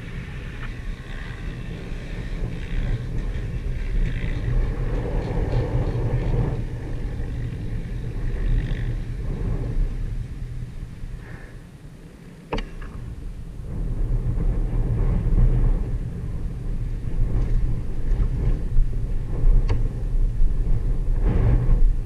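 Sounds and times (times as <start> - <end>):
dirt bike engine running: 0.0 - 11.6, 12.6 - 22.0.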